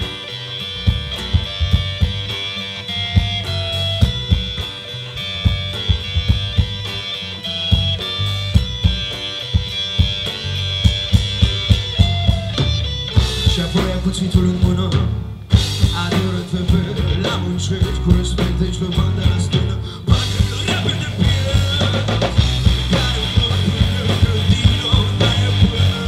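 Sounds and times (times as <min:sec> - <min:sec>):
bass guitar: 0:00.0 - 0:26.0
drum kit beat: 0:00.0 - 0:26.0
electric guitars: 0:00.0 - 0:26.0.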